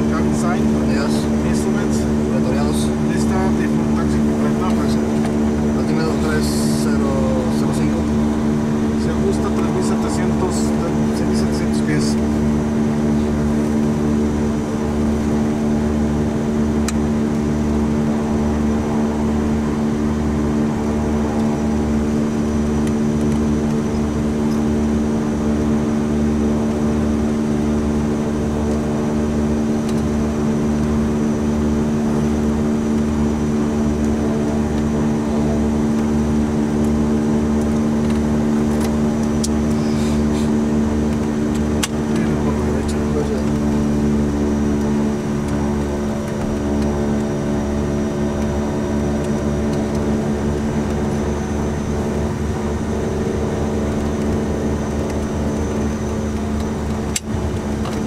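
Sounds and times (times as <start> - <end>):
turboprop engines idling: 0.0 - 58.0.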